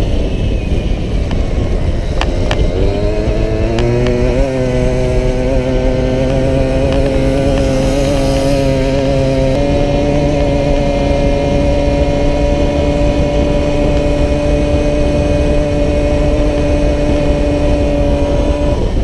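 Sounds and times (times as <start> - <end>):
moped two-stroke engine revving: 0.8 - 19.0.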